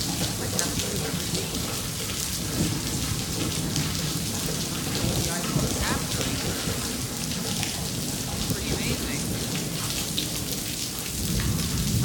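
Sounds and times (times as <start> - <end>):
low rumble of thunder: 0.0 - 12.0
steady rain falling: 0.0 - 12.0.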